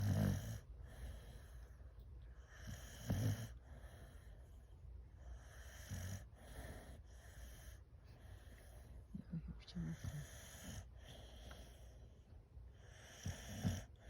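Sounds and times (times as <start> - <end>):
dog snoring: 0.0 - 1.7, 2.3 - 4.6, 5.2 - 9.0, 9.7 - 14.0.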